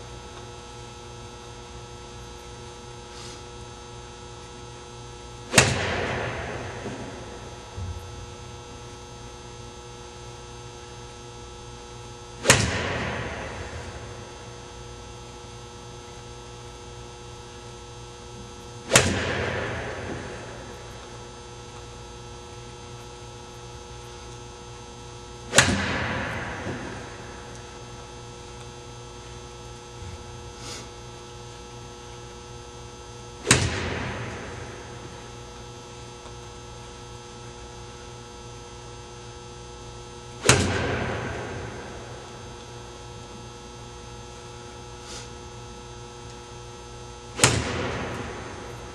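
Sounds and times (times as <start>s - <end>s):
electrical hum: 0.0s - 48.9s.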